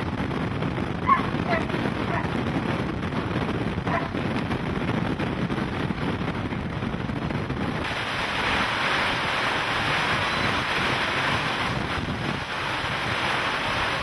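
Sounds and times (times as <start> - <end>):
driving rain: 0.0 - 14.0
hiss of wind-blown rain: 0.0 - 14.0
wind rumbling on microphone: 0.0 - 14.0.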